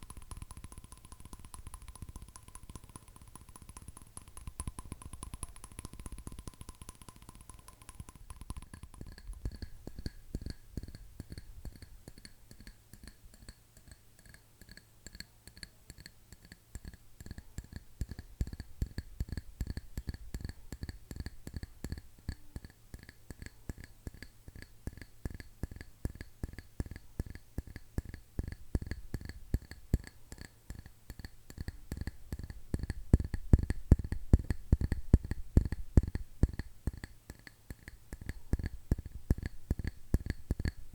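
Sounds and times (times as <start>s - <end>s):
fingernail tapping on hard objects: 0.0s - 40.9s.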